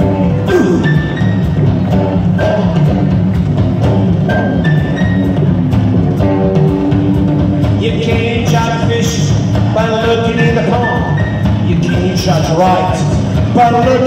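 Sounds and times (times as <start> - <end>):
electric guitar notes: 0.0 - 12.0
drum kit: 0.0 - 14.0
upright double bass: 0.0 - 14.0.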